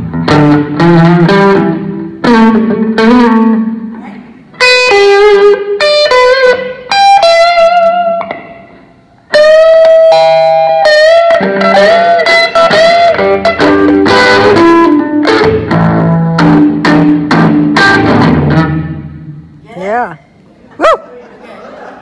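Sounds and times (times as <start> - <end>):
electric guitar: 0.0 - 19.6.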